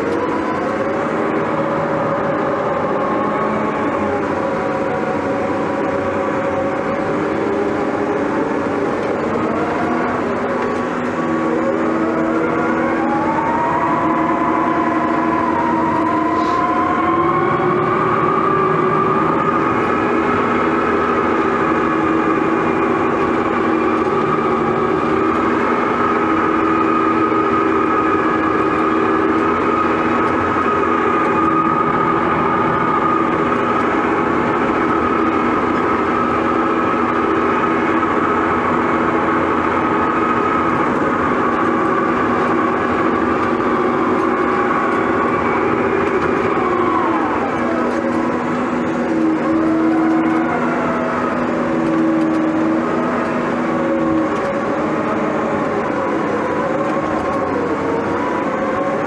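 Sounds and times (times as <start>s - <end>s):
bulldozer engine whining under load: 0.0s - 59.0s.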